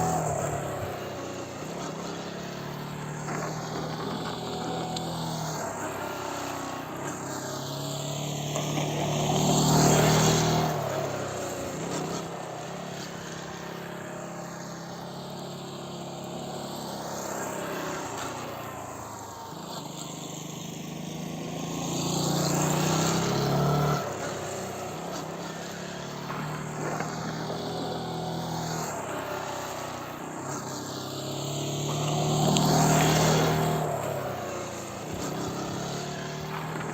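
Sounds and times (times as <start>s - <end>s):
motorcycle engine passing: 0.0s - 36.9s.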